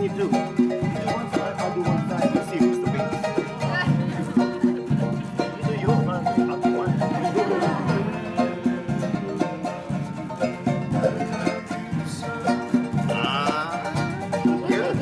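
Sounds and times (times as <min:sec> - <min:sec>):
ukulele strumming: 0:00.0 - 0:15.0.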